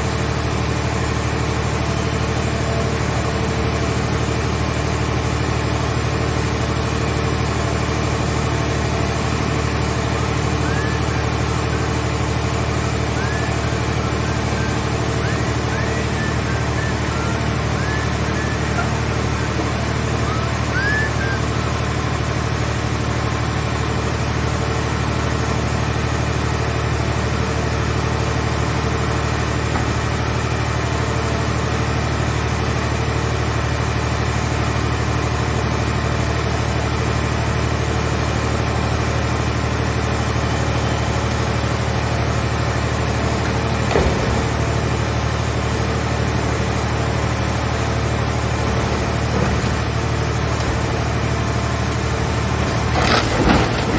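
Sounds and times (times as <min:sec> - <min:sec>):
baler engine idling: 0:00.0 - 0:53.9.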